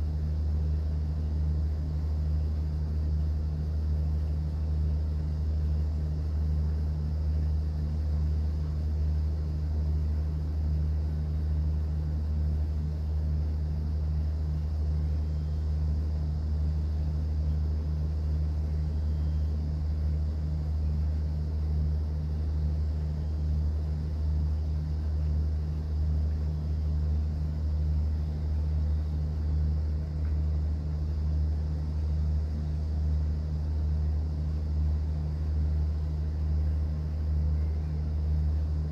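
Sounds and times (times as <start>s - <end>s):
boat engine drone: 0.0s - 38.9s.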